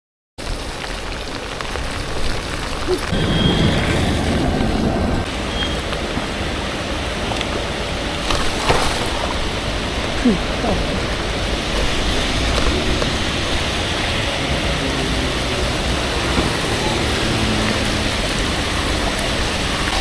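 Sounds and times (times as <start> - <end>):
steady rain: 0.4 - 20.0
thunder rumble: 0.4 - 20.0.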